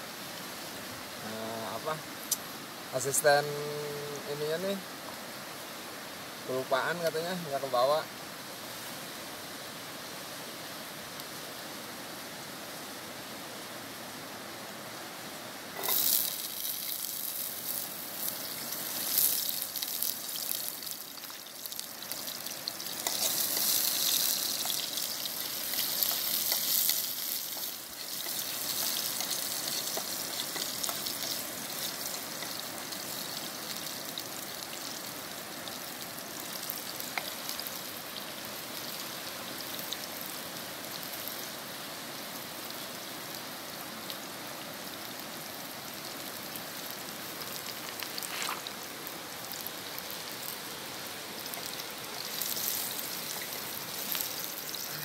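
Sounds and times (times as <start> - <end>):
garlic and shallots sizzling in oil: 0.0 - 13.8, 14.4 - 55.0
steady background hiss: 0.0 - 55.0.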